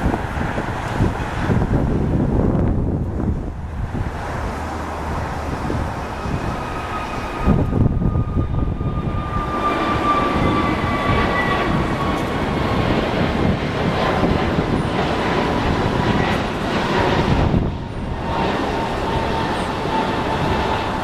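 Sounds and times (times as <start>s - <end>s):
jet engine roar with whine: 0.0s - 21.0s.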